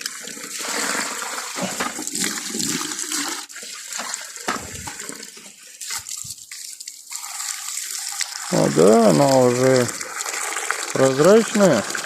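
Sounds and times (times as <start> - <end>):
water gushing and splashing: 0.0 - 12.0.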